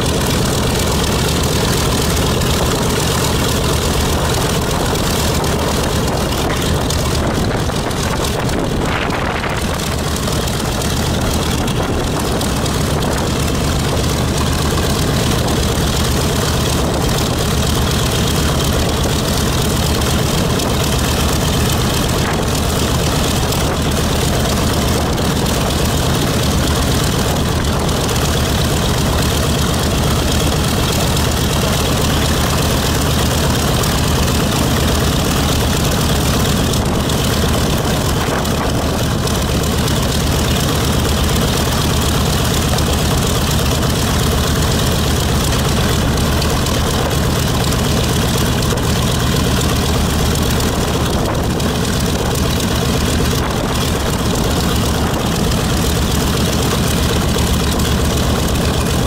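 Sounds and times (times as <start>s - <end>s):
propeller engines idling: 0.0s - 59.0s.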